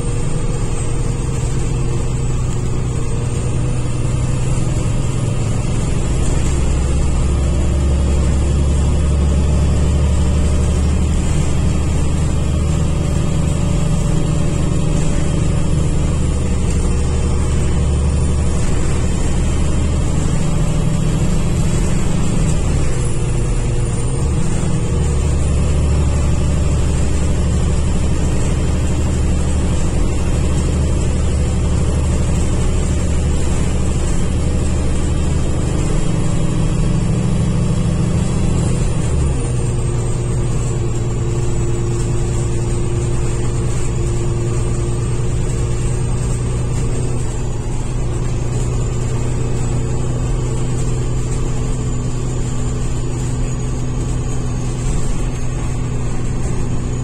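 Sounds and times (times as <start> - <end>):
bus diesel engine droning: 0.0 - 57.0
road noise: 0.0 - 57.0.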